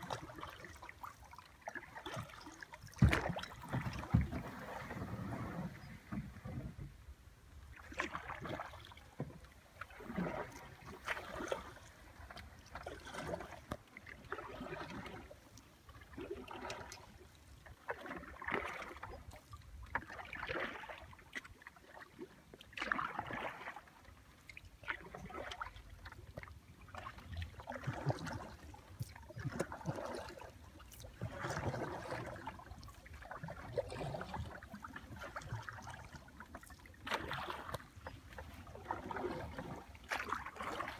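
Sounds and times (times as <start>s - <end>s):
paddle strokes splashing water: 0.0s - 40.9s.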